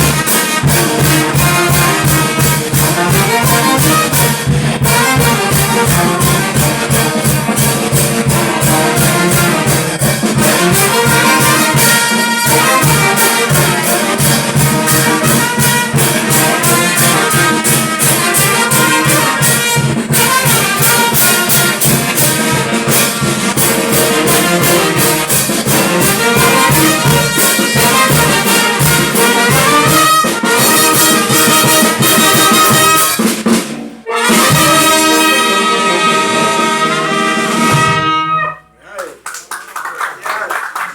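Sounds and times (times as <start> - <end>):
fast drumbeat: 0.0 - 33.8
brass band playing: 0.0 - 38.8.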